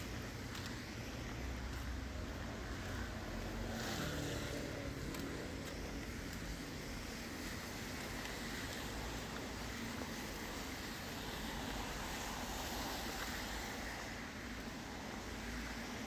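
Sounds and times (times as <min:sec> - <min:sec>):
rain falling: 0:00.1 - 0:16.0.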